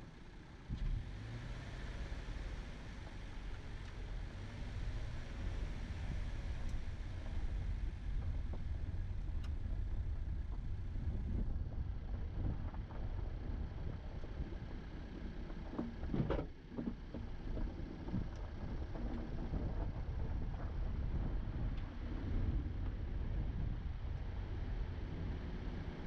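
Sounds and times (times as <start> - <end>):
clatter: 0.0 - 26.0.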